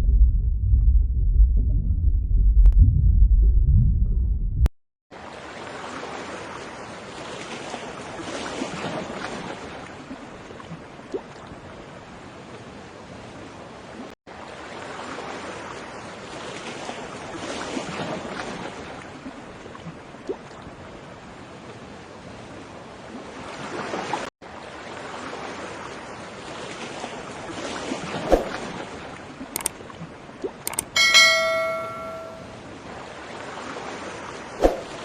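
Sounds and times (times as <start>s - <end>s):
water washing like waves: 5.2s - 21.3s, 22.2s - 32.3s, 32.9s - 35.0s.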